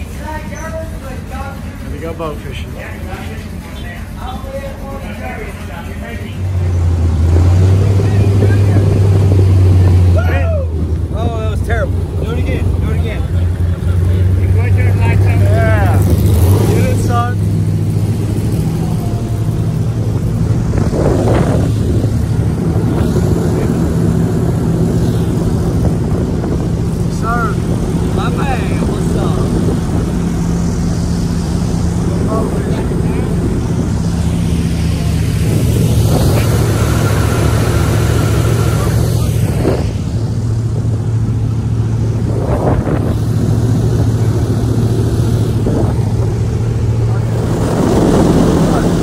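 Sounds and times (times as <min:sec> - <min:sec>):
boat motor droning: 0:00.0 - 0:49.0.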